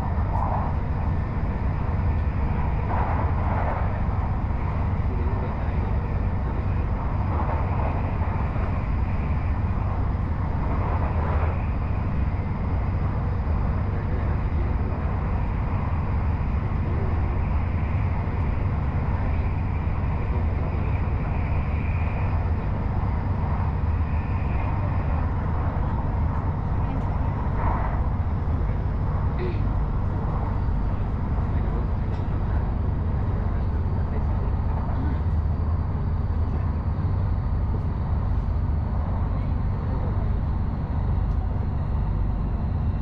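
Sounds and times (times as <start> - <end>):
electric train running rumble: 0.0 - 43.0.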